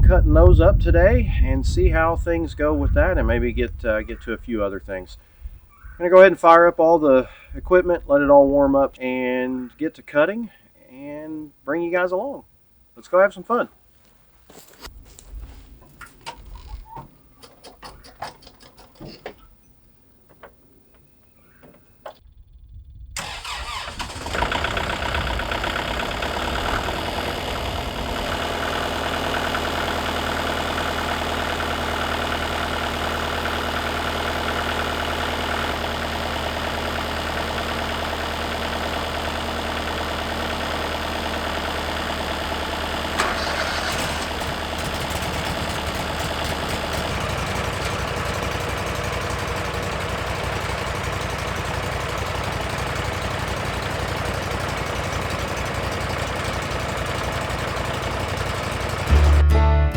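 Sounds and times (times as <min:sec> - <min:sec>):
engine starting and idling: 0:00.0 - 0:09.5, 0:15.2 - 0:22.2, 0:23.2 - 0:59.6.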